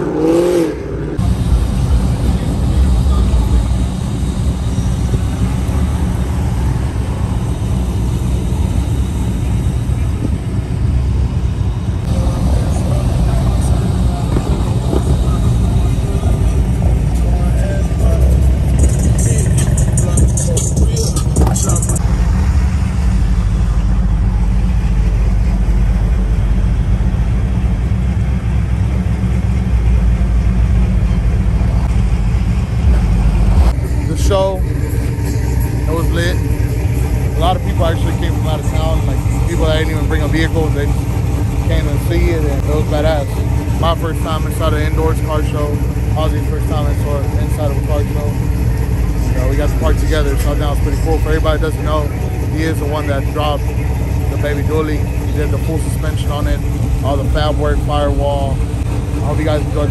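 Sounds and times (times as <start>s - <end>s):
indistinct voices: 0.0s - 59.9s
vehicle engine rumbling: 0.0s - 59.9s.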